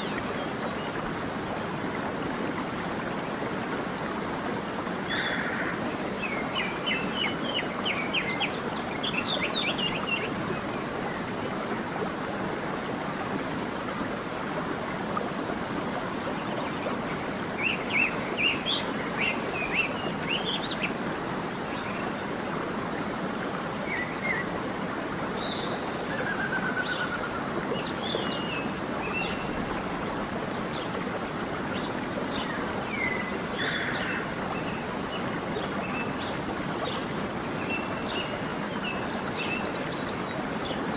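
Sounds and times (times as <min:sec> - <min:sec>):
creek water running: 0:00.0 - 0:40.9.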